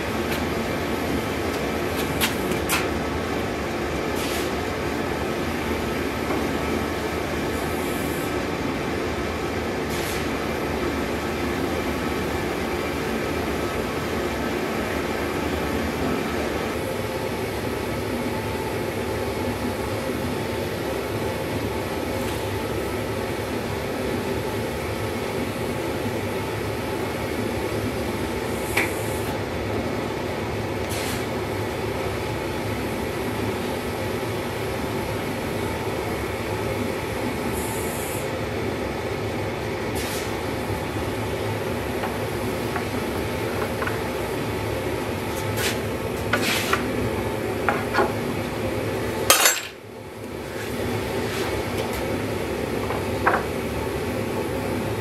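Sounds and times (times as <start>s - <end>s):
gas forge burner roaring: 0.0s - 55.0s.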